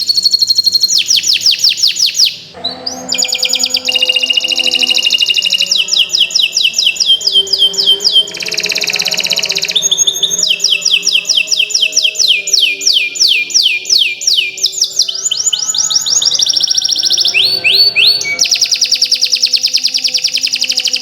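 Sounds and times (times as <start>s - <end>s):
canary singing trills: 0.0s - 21.0s.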